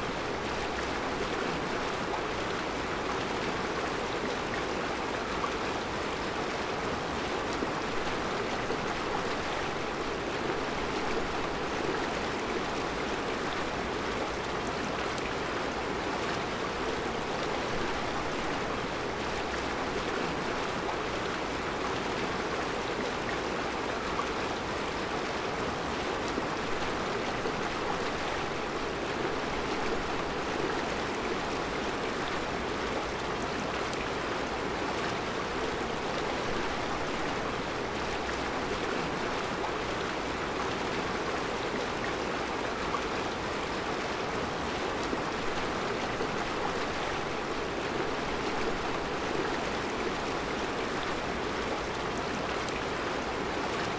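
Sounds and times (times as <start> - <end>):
river flowing over stones: 0.0 - 53.9.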